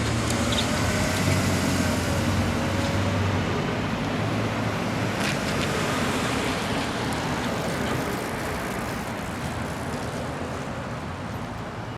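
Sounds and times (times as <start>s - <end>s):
vehicle rumbling: 0.0s - 11.9s.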